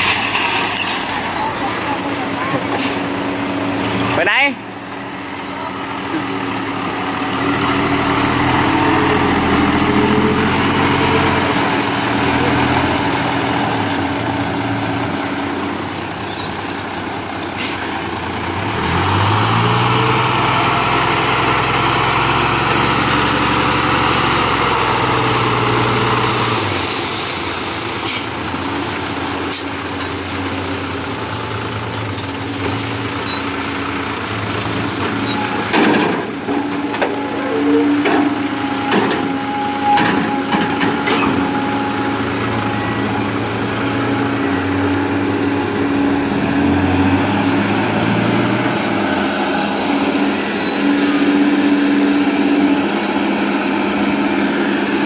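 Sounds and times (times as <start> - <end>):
heavy diesel engine revving: 1.2 - 55.0.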